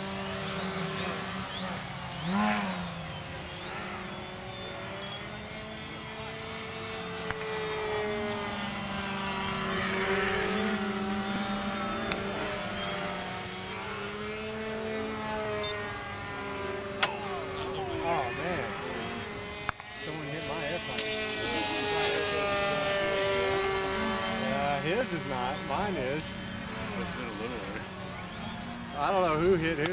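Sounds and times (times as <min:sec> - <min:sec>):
model airplane engines droning: 0:00.0 - 0:29.9.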